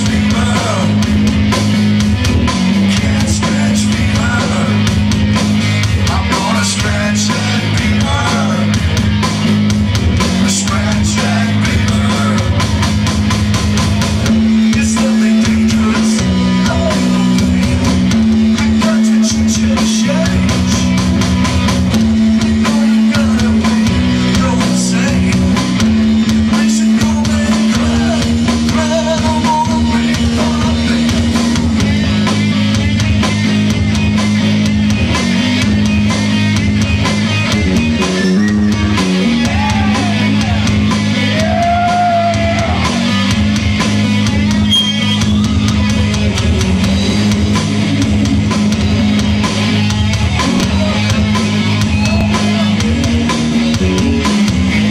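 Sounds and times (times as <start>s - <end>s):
drum kit: 0.0s - 54.9s
electric guitar: 0.0s - 54.9s
low bass line: 0.0s - 54.9s.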